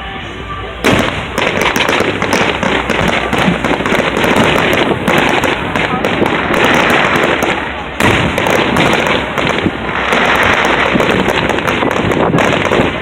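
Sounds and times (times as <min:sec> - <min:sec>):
fireworks crackling bangs: 0:00.1 - 0:13.0.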